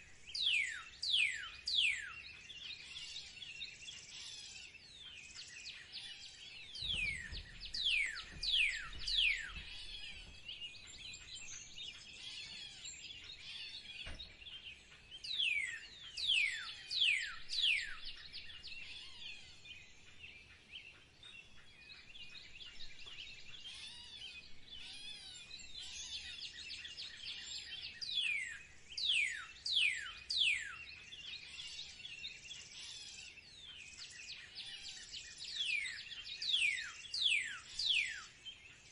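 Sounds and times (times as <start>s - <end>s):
small bird chirps: 0.0s - 38.9s.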